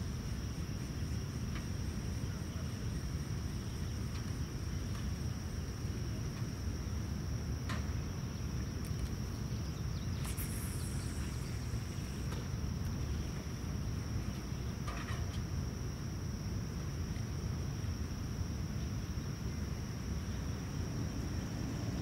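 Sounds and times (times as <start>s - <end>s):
insects droning high-pitched: 0.0s - 22.0s.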